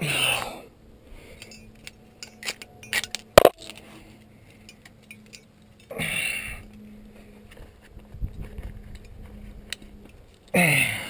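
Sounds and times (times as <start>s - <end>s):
metal climbing gear clinking: 1.2s - 11.0s.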